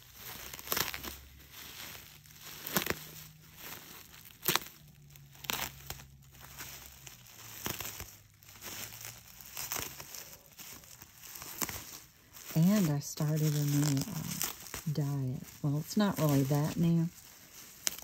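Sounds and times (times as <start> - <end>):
bubble wrap crackling: 0.0 - 18.0.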